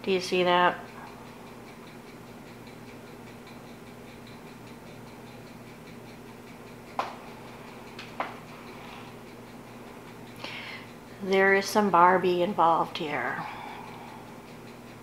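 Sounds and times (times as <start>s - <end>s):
faint regular ticking: 0.0s - 15.0s
low electrical hum: 0.0s - 15.0s.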